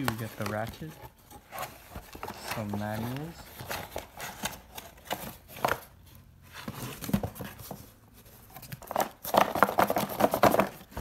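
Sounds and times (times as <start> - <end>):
paper and plastic crinkling: 0.0 - 6.0, 6.6 - 11.0.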